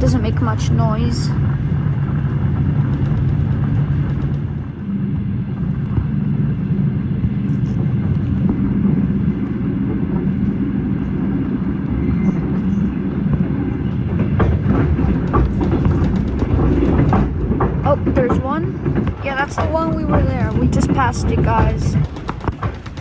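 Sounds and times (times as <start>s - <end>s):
train rumbling on track: 0.0s - 23.0s.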